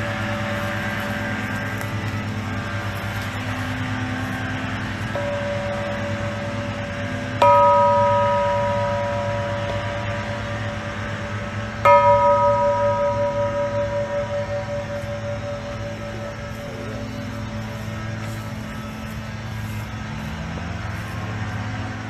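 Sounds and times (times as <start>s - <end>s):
large bell tolling: 0.0s - 22.0s.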